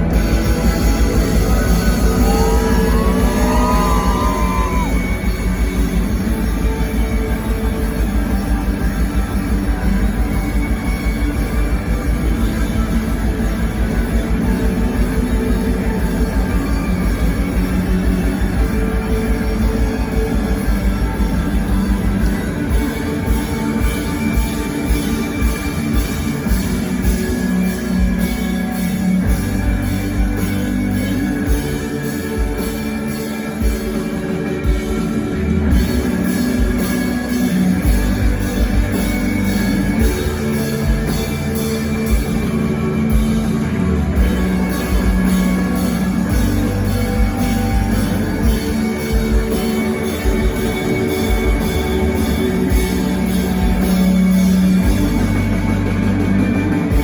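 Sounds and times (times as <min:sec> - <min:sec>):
bass guitar: 0:00.0 - 0:57.0
layered electric guitars: 0:00.0 - 0:57.0
steady drumming: 0:00.0 - 0:57.0.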